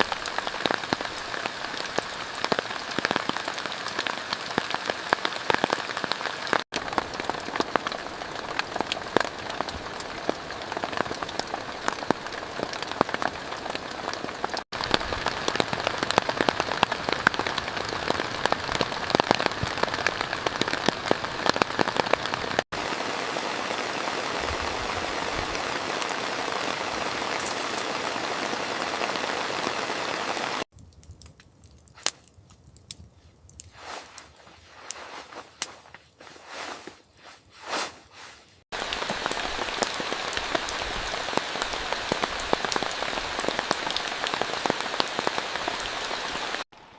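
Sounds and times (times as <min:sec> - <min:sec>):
heavy rain falling: 0:00.0 - 0:30.7, 0:38.7 - 0:46.6.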